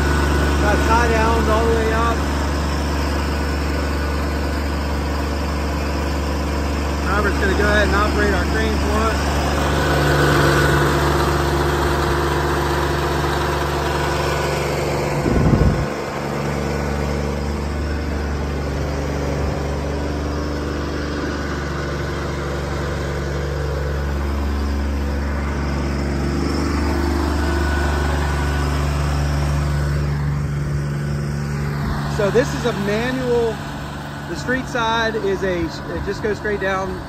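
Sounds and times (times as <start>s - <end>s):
diesel power unit running: 0.0s - 37.0s
loud low rumble: 0.0s - 37.0s.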